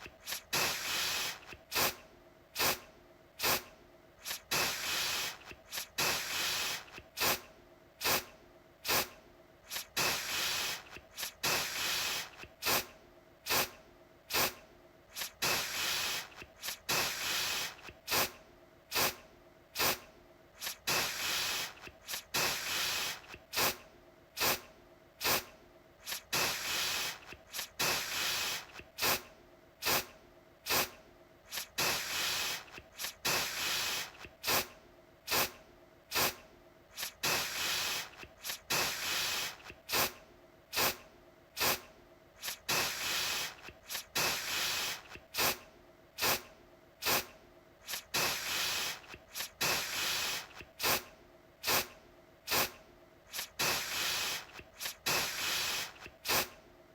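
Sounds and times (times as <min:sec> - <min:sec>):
aerosol spray hissing: 0:00.0 - 0:02.0, 0:02.6 - 0:02.8, 0:03.4 - 0:12.9, 0:13.5 - 0:19.2, 0:19.8 - 0:20.0, 0:20.6 - 0:23.8, 0:24.4 - 0:30.1, 0:30.7 - 0:34.7, 0:35.3 - 0:41.0, 0:41.6 - 0:41.8, 0:42.4 - 0:45.6, 0:46.2 - 0:51.9, 0:52.5 - 0:56.5.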